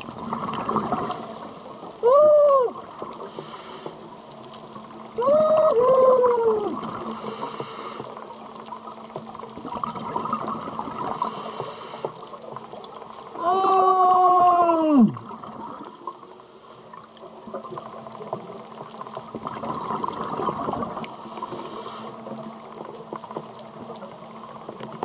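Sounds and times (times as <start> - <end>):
underwater background wash: 0.0 - 25.0.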